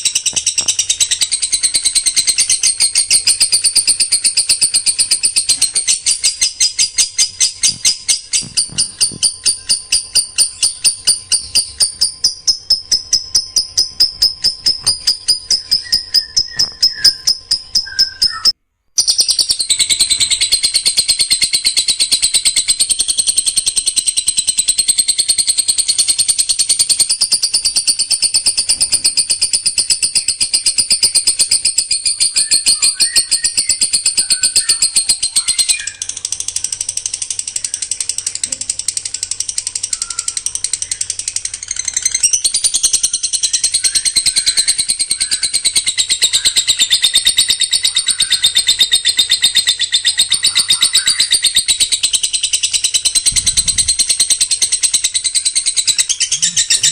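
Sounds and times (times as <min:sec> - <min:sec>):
songbird rapid sharp notes: 0:00.0 - 0:56.9.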